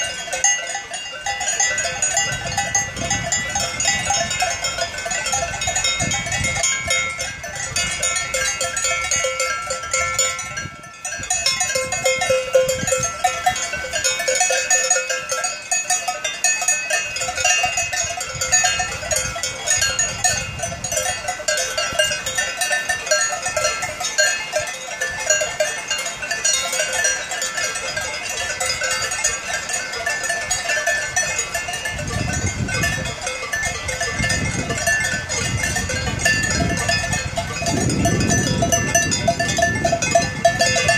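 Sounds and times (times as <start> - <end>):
cowbells clanking: 0.0 - 40.9.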